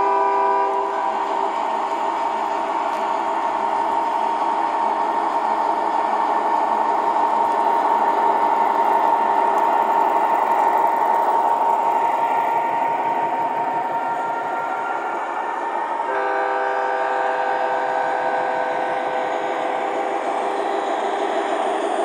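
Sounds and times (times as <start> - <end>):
constant motor whine: 0.0 - 22.0
model trains running on track: 0.0 - 22.0.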